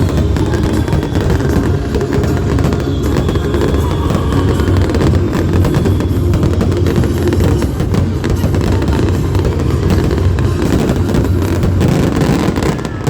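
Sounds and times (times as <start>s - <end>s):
fireworks banging and crackling: 0.0s - 13.0s
loud bass-heavy music: 0.0s - 13.0s.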